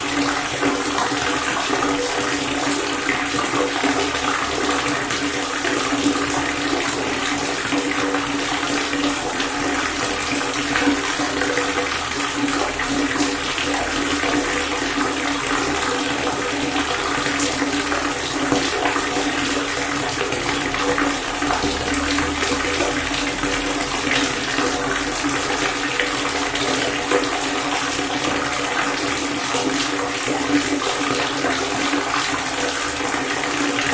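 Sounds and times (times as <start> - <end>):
water pouring: 0.0 - 33.9.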